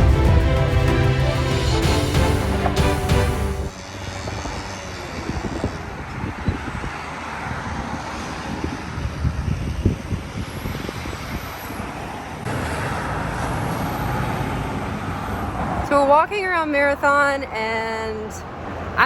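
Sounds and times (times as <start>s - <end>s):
road traffic noise: 0.0s - 19.0s
vehicle approaching: 0.0s - 19.0s.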